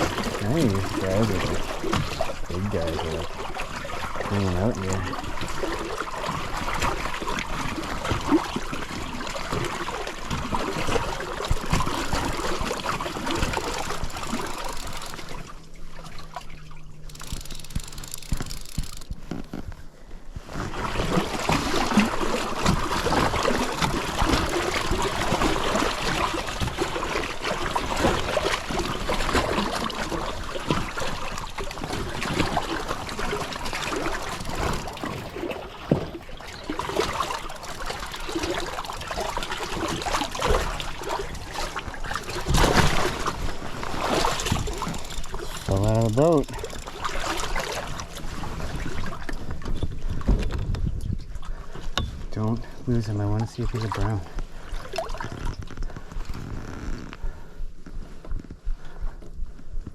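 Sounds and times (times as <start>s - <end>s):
river water trickling and splashing: 0.0s - 57.1s.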